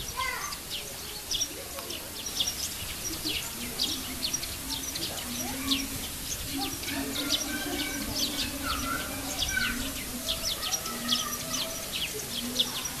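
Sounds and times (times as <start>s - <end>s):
small birds chirping: 0.0s - 13.0s
faint low murmur: 0.2s - 13.0s.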